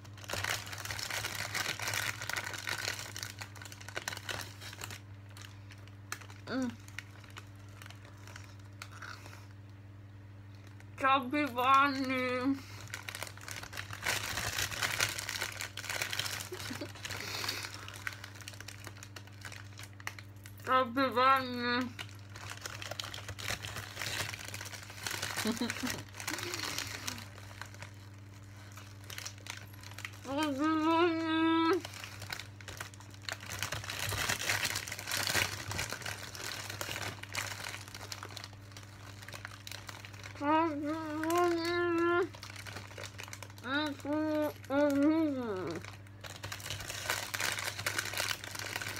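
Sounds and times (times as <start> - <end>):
wrapper crinkling: 0.0 - 9.8, 10.4 - 48.9
faint low hum: 0.0 - 48.9.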